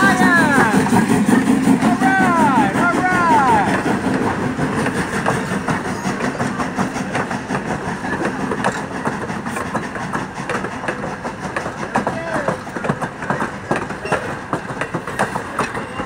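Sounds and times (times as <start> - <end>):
train rumble: 0.0 - 16.0
wheels clacking over rail joints: 0.0 - 16.0.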